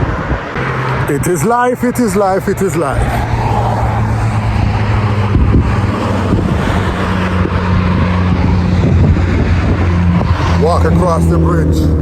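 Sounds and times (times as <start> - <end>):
low engine drone: 0.0 - 12.0
road and wind noise: 0.0 - 12.0.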